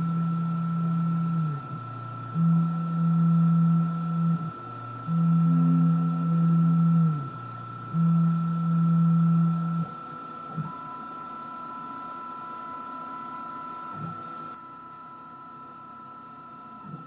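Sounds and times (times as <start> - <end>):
loud low motor hum: 0.0 - 14.7
lathe high whine: 0.0 - 17.0.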